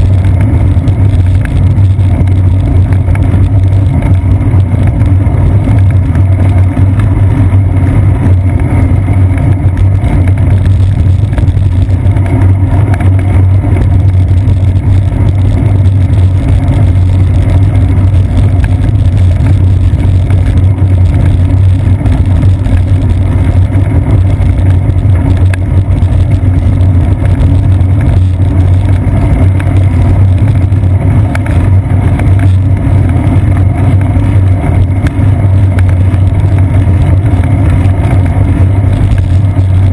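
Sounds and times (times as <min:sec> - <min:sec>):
road vibration rumble: 0:00.0 - 0:39.9
wind rumble on microphone: 0:00.0 - 0:39.9.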